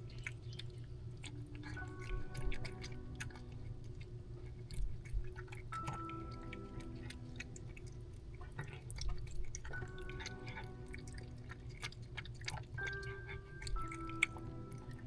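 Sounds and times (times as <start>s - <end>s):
cats chewing food: 0.0s - 15.0s.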